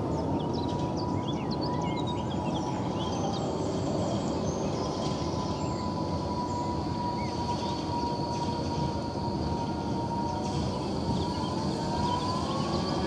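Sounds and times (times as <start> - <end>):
birds chirping: 0.0 - 13.0
tram rumbling on track: 2.0 - 13.0.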